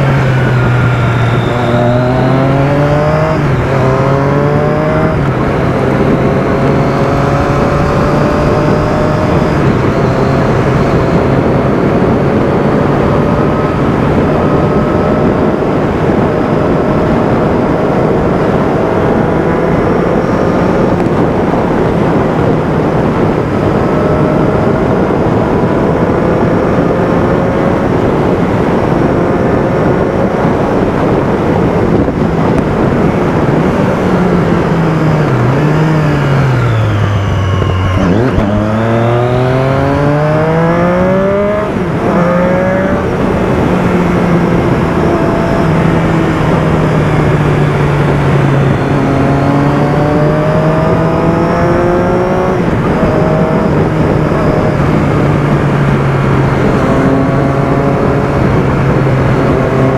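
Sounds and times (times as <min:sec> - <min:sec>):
motorcycle engine revving: 0:00.0 - 0:59.9
steady rushing noise: 0:00.0 - 0:59.9.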